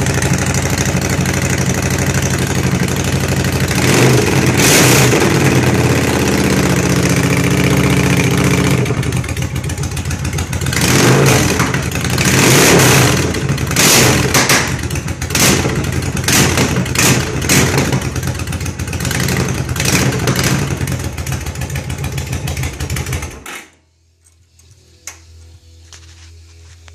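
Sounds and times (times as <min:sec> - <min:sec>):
motorcycle engine revving: 0:00.0 - 0:23.5.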